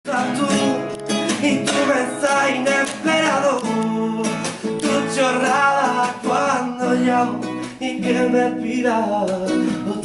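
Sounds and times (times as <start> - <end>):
acoustic guitar strumming: 0.0 - 10.0
man singing: 0.0 - 10.0.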